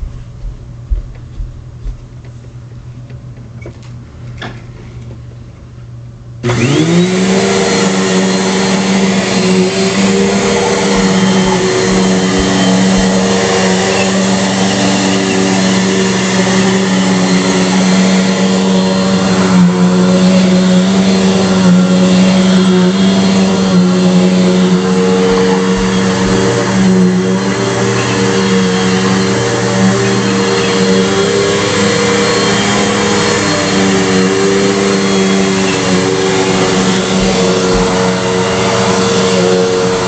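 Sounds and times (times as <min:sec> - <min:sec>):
vacuum cleaner running: 0:06.3 - 0:40.0.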